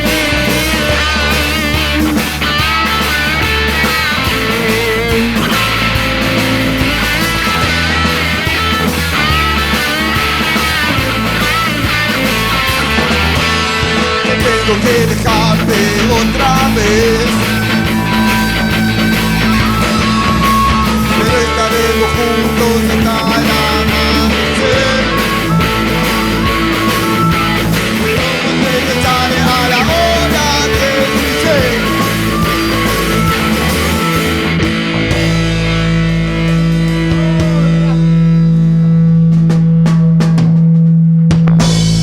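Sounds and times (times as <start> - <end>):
rock music with guitars and drums: 0.0 - 42.0.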